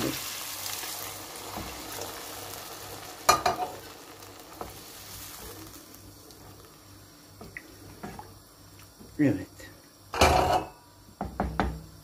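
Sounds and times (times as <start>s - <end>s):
pot sizzling and hissing: 0.0s - 12.0s.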